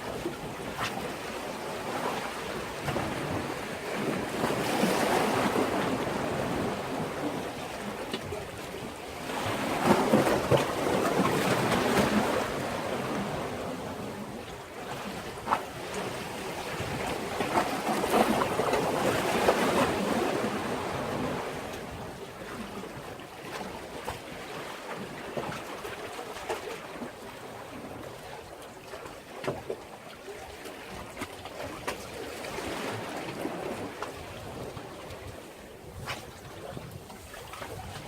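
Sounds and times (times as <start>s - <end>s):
wave splashes: 0.0s - 38.0s.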